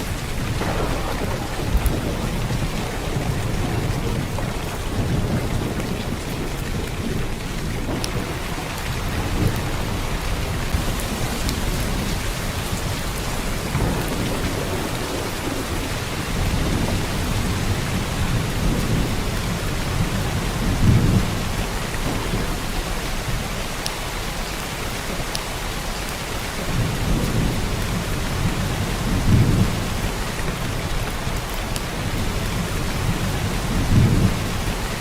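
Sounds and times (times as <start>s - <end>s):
heavy rain downpour: 0.0s - 35.0s.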